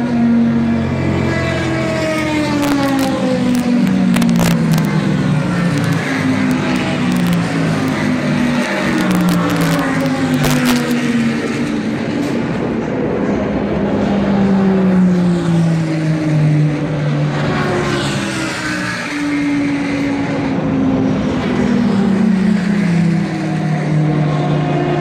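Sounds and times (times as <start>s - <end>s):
race cars passing at speed: 0.0s - 25.0s.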